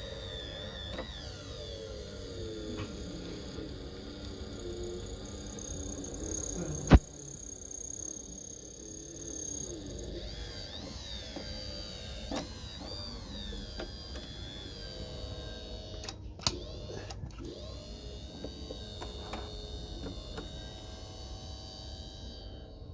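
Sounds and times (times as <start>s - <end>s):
sewing machine motor whining: 0.0s - 22.9s.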